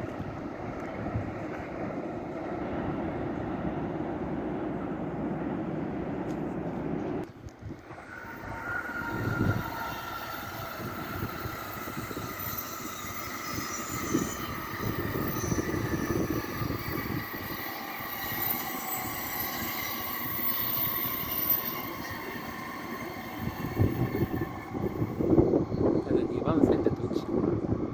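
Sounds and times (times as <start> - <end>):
electric train whine: 0.0 - 27.9
wheels rumbling on rails: 0.0 - 27.9.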